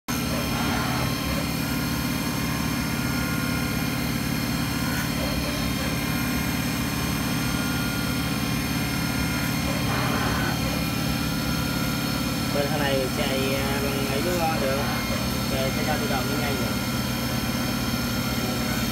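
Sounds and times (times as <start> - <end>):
milling machine humming and whining: 0.1 - 18.9.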